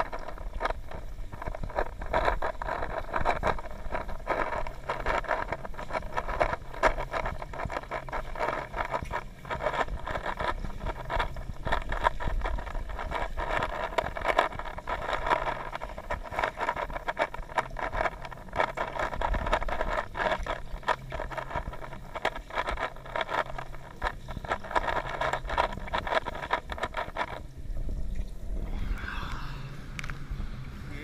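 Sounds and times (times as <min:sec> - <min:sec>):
small underwater clicks: 0:00.0 - 0:30.3
low hum: 0:00.0 - 0:31.0
muffled underwater hiss: 0:00.0 - 0:31.0.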